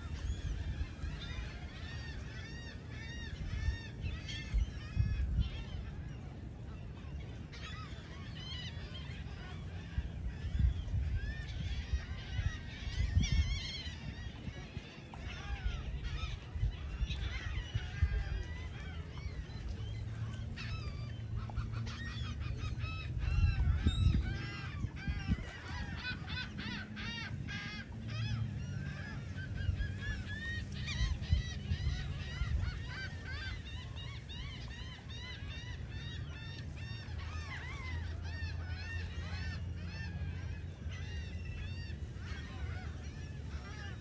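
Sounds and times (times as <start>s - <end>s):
gulls calling: 0.0s - 44.0s.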